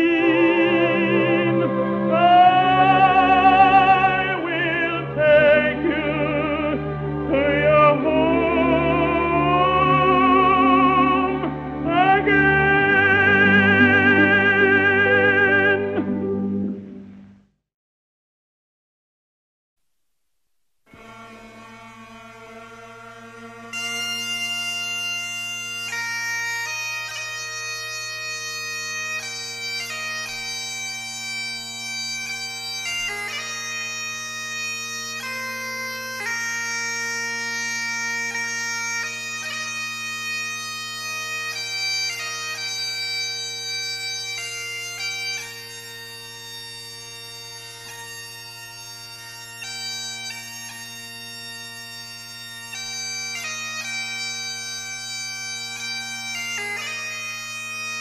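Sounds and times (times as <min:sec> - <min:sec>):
bagpipe chanter melody: 0:00.0 - 0:17.1, 0:20.9 - 0:58.0
bagpipe drones: 0:00.0 - 0:17.2, 0:20.9 - 0:58.0.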